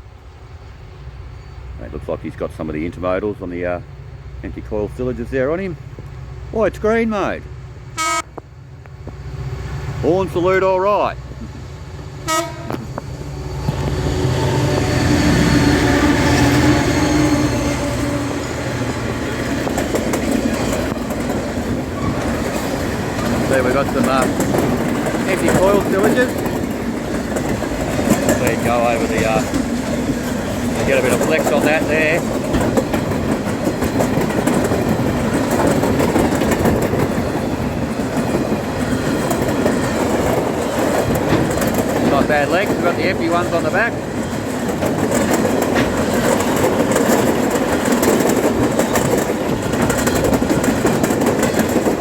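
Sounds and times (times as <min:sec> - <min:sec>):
diesel locomotive engine at full power: 0:00.0 - 0:52.0
train wagons clickety-clack on rails: 0:01.0 - 0:52.0.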